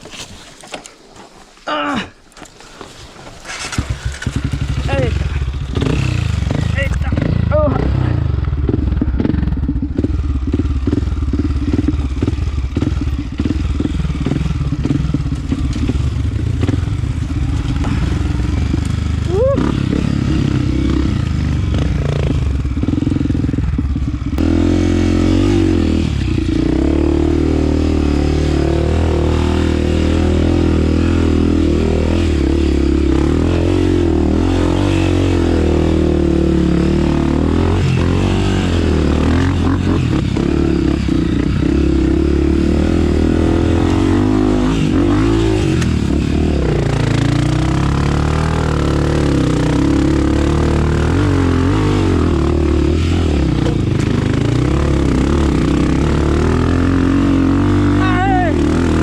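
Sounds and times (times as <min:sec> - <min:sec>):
dirt bike engine revving: 0:03.4 - 0:59.0.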